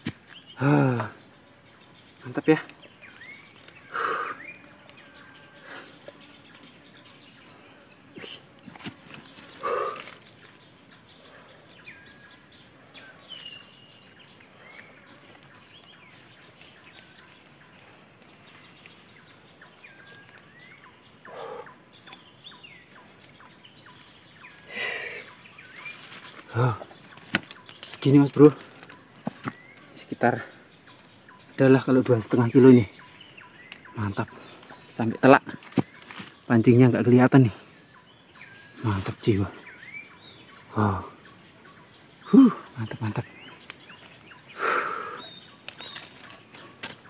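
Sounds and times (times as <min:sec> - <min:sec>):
bird chirps: 0:00.0 - 0:47.0
high-pitched insect drone: 0:00.0 - 0:47.0.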